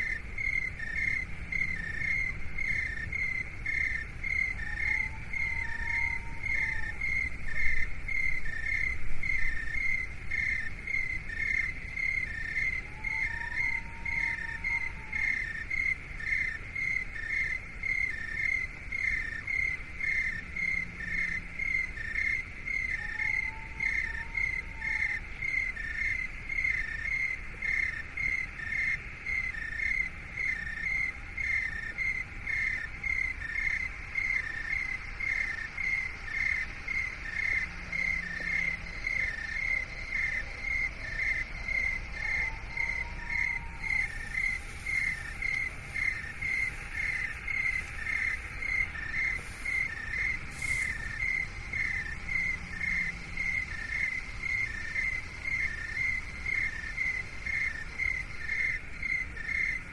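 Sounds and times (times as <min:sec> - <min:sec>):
insect-like chirping: 0:00.0 - 0:59.9
low steady rumble: 0:00.0 - 0:59.9.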